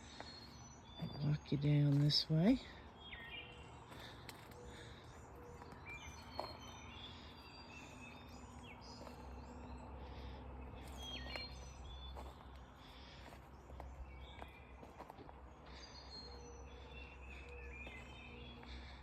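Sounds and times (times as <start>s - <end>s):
birds singing and chirping: 0.0s - 19.0s.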